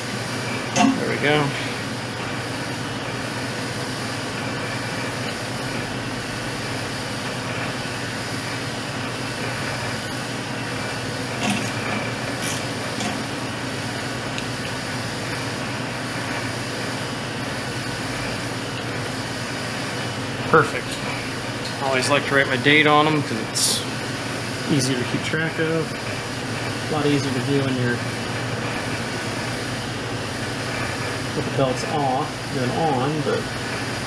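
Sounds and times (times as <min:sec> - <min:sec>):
refrigeration machinery humming: 0:00.0 - 0:34.0.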